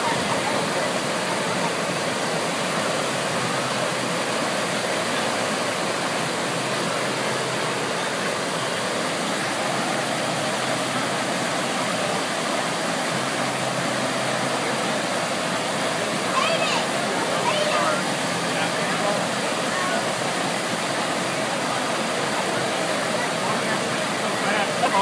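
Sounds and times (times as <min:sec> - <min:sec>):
water rushing up a ramp: 0:00.0 - 0:25.0.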